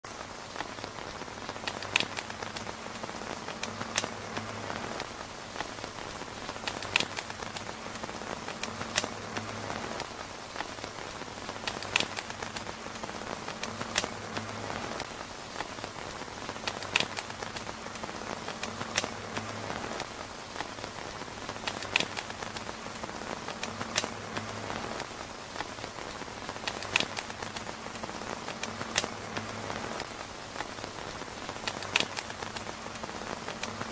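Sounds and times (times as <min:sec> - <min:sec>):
rain pattering on a tent roof: 0:00.0 - 0:33.9.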